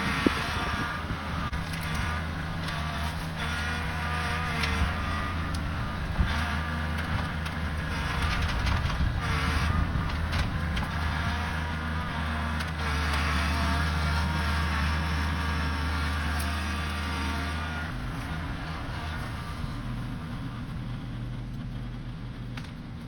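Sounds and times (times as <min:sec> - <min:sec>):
engine whine: 0:00.0 - 0:23.0
tractor diesel engine running: 0:00.0 - 0:23.0.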